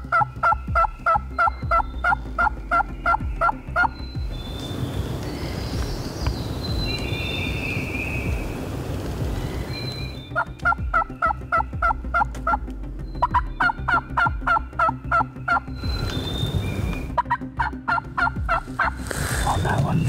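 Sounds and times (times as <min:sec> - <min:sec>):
wild turkey calling: 0:00.0 - 0:08.6, 0:09.2 - 0:20.0.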